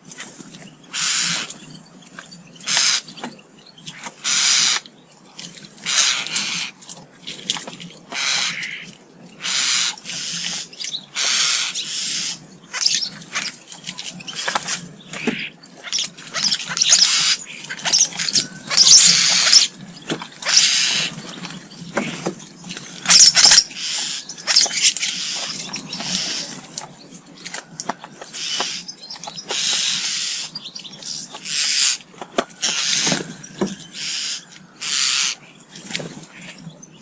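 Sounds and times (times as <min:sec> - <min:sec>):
starlings calling harshly: 0:00.0 - 0:37.0.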